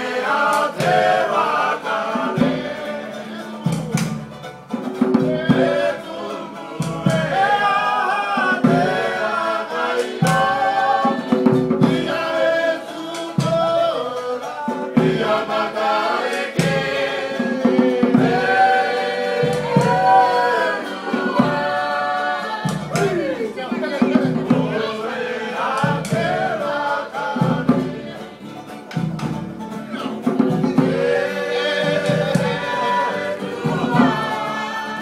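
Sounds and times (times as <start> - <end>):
choir singing in harmony: 0.0 - 28.6, 29.8 - 35.0
sharp percussive beats: 0.0 - 35.0.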